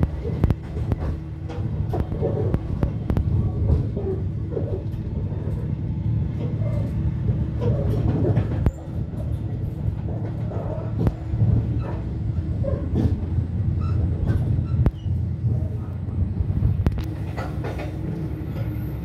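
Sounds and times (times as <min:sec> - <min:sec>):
diesel train rumbling: 0:00.0 - 0:19.0
wheels clattering on rails: 0:00.0 - 0:19.0.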